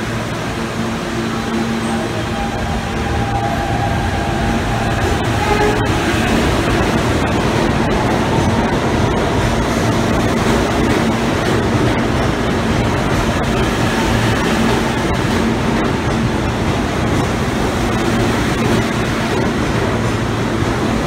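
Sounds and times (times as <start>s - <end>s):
subway train rumbling past: 0.0s - 21.0s.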